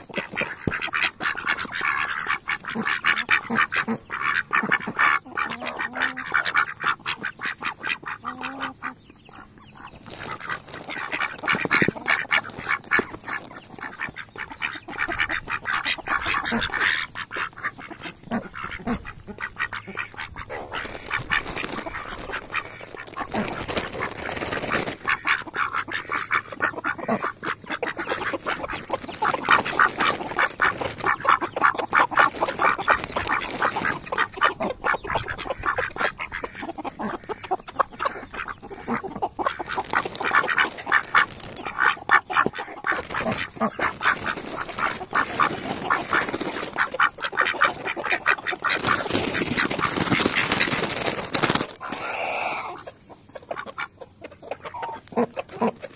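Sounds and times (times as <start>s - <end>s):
soft duck quacks: 0.0s - 50.8s, 51.8s - 55.9s
ducks' bills clicking and chattering: 0.0s - 55.9s.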